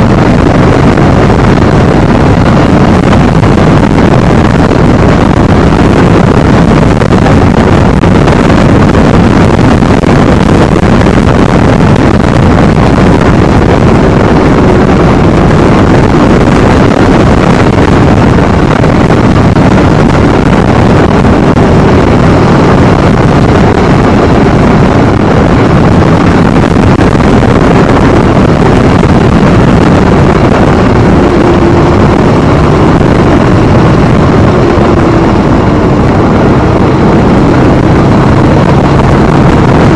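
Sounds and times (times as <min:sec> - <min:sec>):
motorcycle engine drone: 0:00.0 - 0:39.9
wind rush on microphone: 0:00.0 - 0:39.9.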